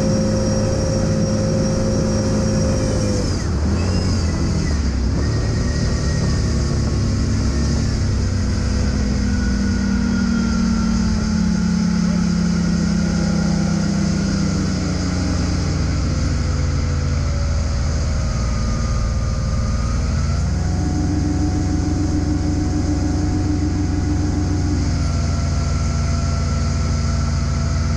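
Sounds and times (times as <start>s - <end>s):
boat engine running: 0.0s - 27.9s.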